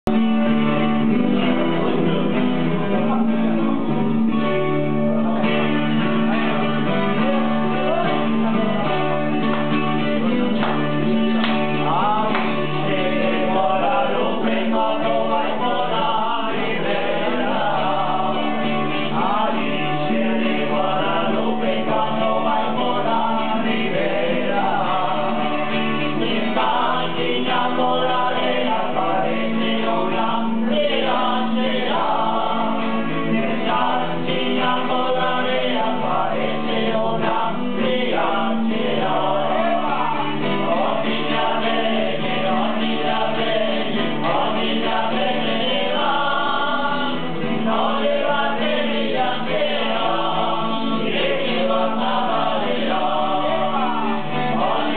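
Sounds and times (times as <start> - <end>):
acoustic guitar: 0.0 - 54.9
men singing together: 6.0 - 54.9.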